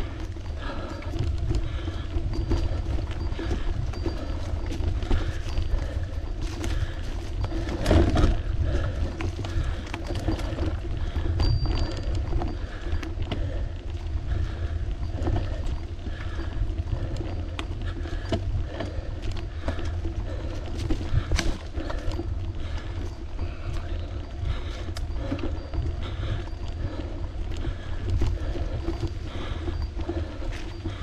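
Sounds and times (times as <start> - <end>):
tyre and road noise: 0.0 - 31.0
wind rumbling on microphone: 0.0 - 31.0.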